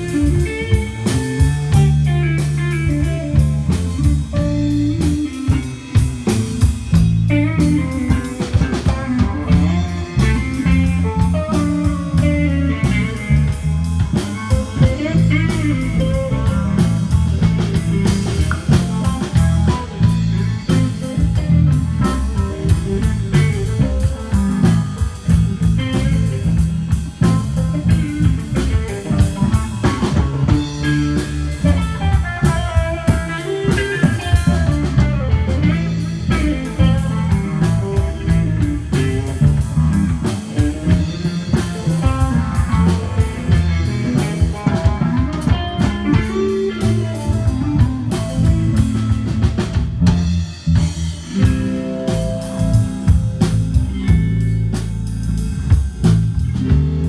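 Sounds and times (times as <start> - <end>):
bass guitar: 0.0 - 57.0
drum kit beat: 0.0 - 57.0
electric guitar lines: 0.0 - 57.0.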